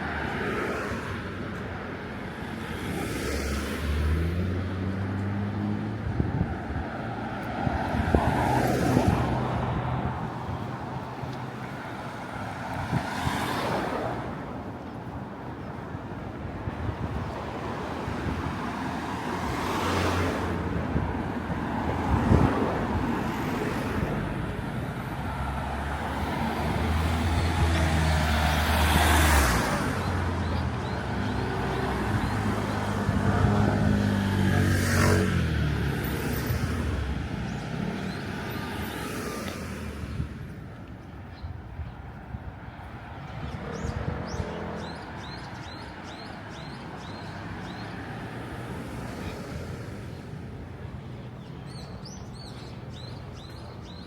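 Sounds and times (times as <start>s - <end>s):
low traffic rumble: 0.0s - 54.0s
vehicles passing: 0.0s - 54.0s.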